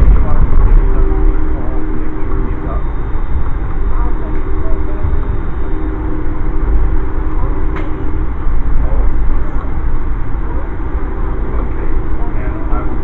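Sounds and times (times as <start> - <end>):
faint hum: 0.0 - 13.0
train rumble from inside: 0.0 - 13.0.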